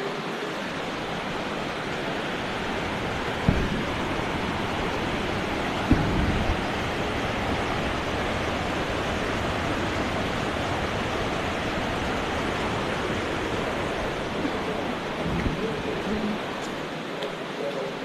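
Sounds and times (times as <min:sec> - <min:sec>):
fast-flowing water rushing: 0:00.0 - 0:18.0.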